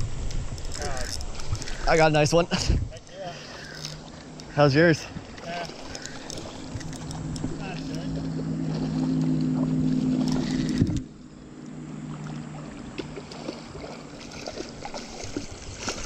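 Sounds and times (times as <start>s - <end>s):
creek water: 0.0s - 16.0s
low motor hum: 2.8s - 16.0s.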